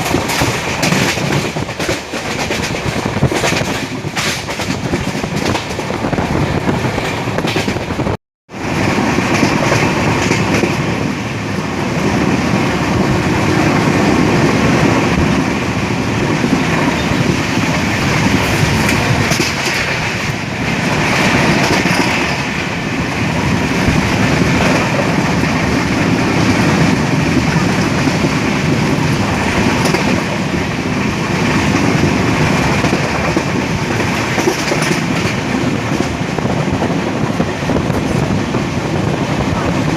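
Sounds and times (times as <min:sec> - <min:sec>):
clickety-clack of rail joints: 0:00.0 - 0:39.9
train wheels rumbling on rails: 0:00.0 - 0:39.9.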